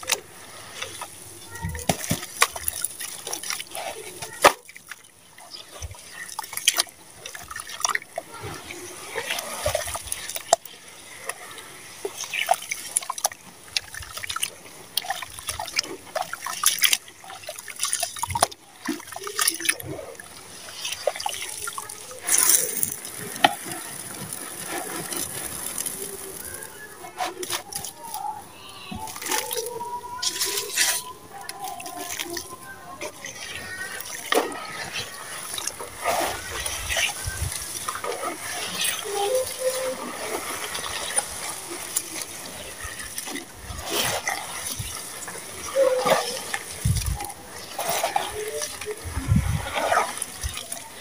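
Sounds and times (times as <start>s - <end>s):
hands squelching wet mud: 0.0s - 11.4s, 12.0s - 51.0s
water splashes and drips: 0.0s - 51.0s.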